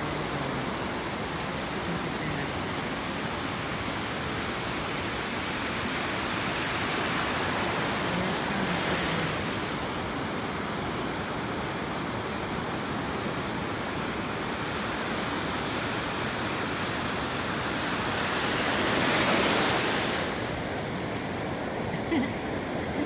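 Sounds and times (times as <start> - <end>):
ocean surf: 0.0 - 23.0.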